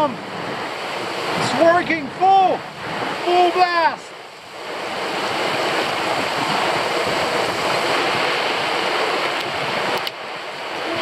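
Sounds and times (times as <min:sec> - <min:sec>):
heavy rain on water: 0:00.0 - 0:11.0.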